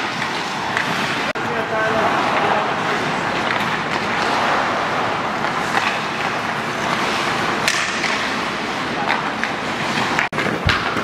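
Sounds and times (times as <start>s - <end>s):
skate blades scraping ice: 0.0s - 1.3s, 1.9s - 11.0s
hockey sticks and puck clacking: 0.0s - 11.0s.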